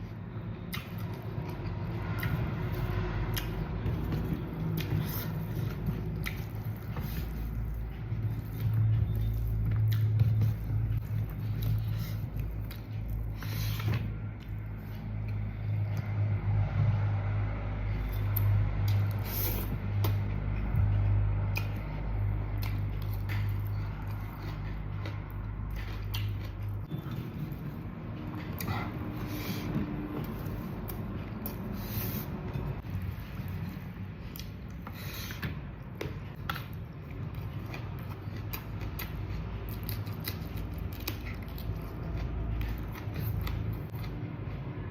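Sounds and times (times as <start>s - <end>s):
person chewing: 0.0s - 16.9s, 17.8s - 44.9s
steady low hum: 0.0s - 44.9s
steady low rumble: 0.0s - 44.9s.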